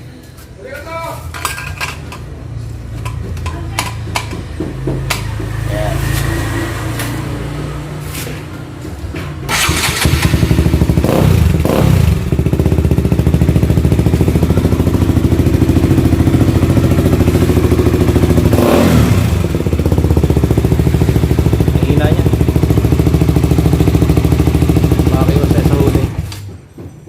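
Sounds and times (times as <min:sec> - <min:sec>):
motorcycle engine revving and idling: 0:02.7 - 0:26.9.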